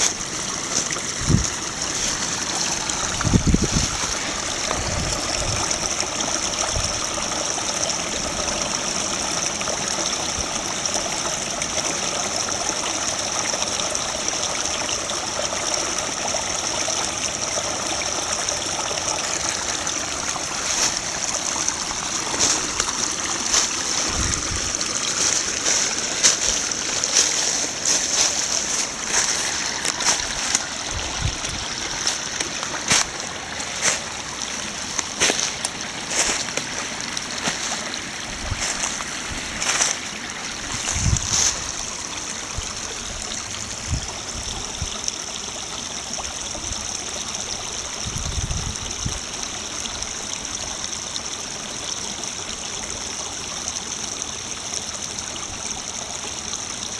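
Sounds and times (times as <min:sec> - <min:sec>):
brook babbling over gravel: 0:00.0 - 0:56.9
water splashes and trickles: 0:00.0 - 0:56.9.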